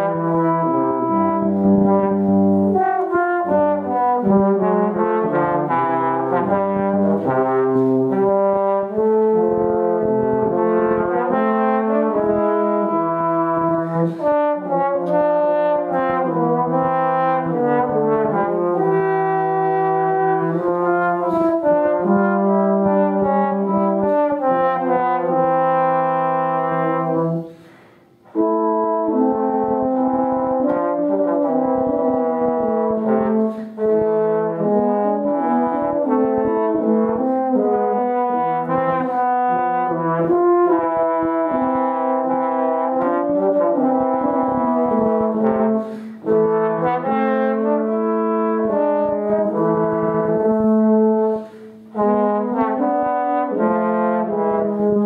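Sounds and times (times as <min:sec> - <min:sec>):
second brass instrument: 0:00.0 - 0:55.0
trombone: 0:00.0 - 0:55.0.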